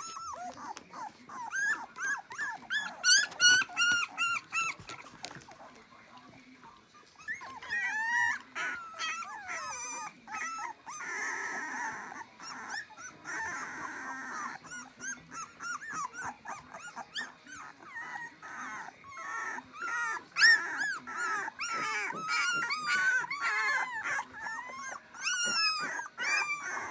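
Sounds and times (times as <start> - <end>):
puppies whimpering and squeaking: 0.0 - 26.9.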